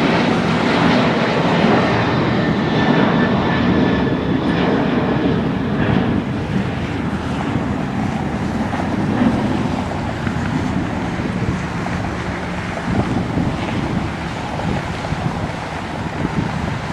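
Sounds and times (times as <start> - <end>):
jet engine rumbling: 0.0 - 16.9
wind buffeting microphone: 0.0 - 16.9.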